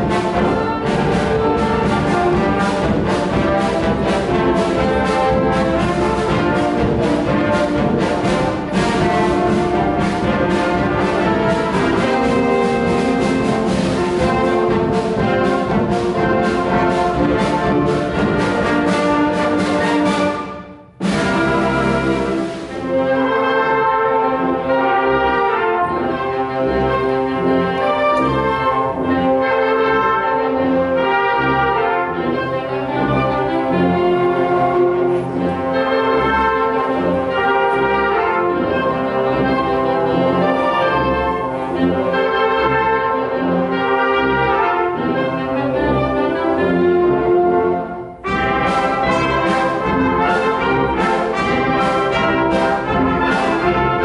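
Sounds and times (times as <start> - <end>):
wind band playing: 0.0 - 54.0.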